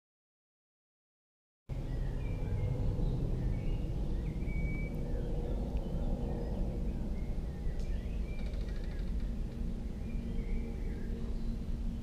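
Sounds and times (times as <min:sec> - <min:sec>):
bird calls and chirps: 0:01.7 - 0:12.0
steady low rumble: 0:01.7 - 0:12.0
bird trill: 0:01.8 - 0:11.8.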